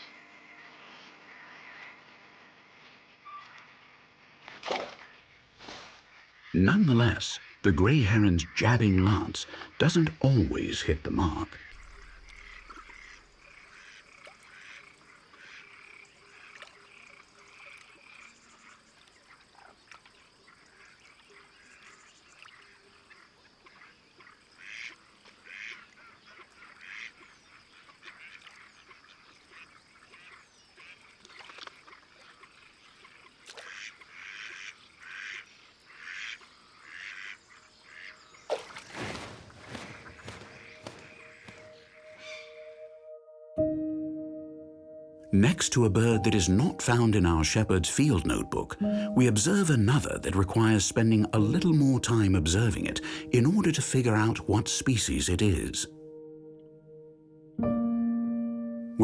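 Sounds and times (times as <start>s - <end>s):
water birds calling: 4.7s - 43.2s, 45.2s - 56.7s.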